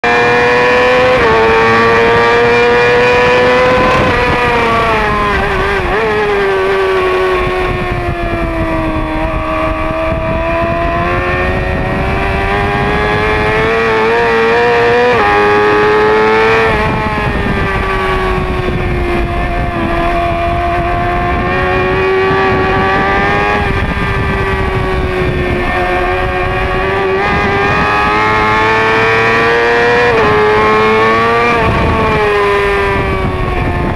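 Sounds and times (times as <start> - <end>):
motorcycle engine at high revs: 0.0 - 33.9
wind rush: 0.0 - 33.9.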